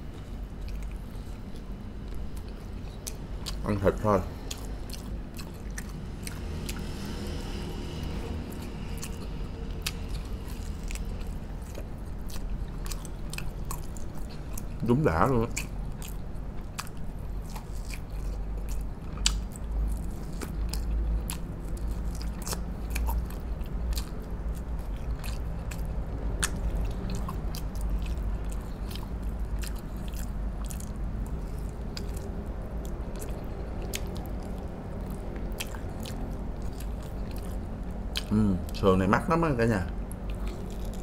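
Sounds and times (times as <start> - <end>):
person chewing and biting: 0.0 - 38.7, 40.1 - 41.0.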